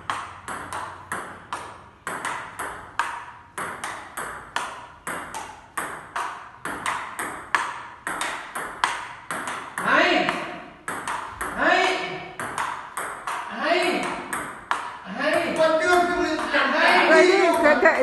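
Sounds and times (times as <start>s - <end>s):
table tennis ball clicking: 0.0s - 11.6s, 12.4s - 15.6s.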